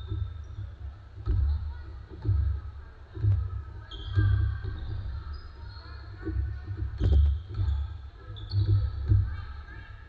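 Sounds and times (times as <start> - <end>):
sneakers squeaking on floor: 0.0 - 2.5, 3.3 - 9.8
basketball bouncing on wooden floor: 0.0 - 5.4, 6.3 - 9.4.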